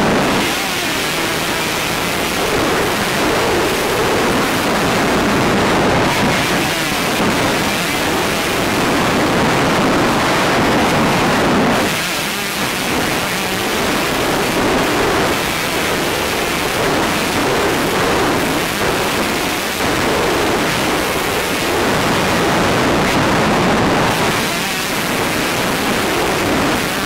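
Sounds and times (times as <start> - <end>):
motocross bike engine: 0.0 - 27.0
wind on microphone: 0.0 - 27.0.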